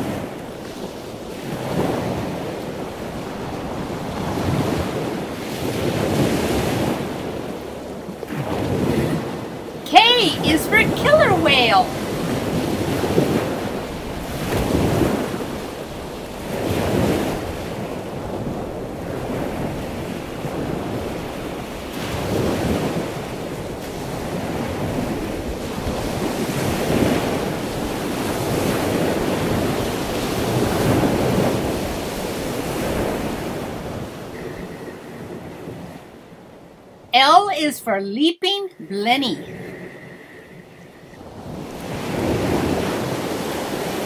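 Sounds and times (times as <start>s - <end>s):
water washing like surf: 0.0s - 36.2s, 41.2s - 44.0s.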